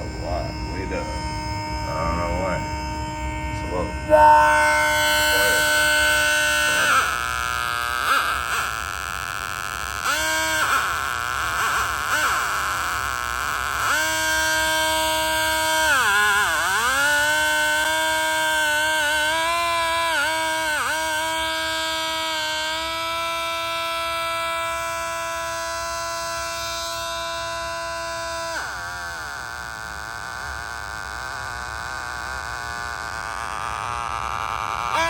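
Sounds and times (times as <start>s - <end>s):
buzzy electronic siren tone: 0.0s - 35.0s.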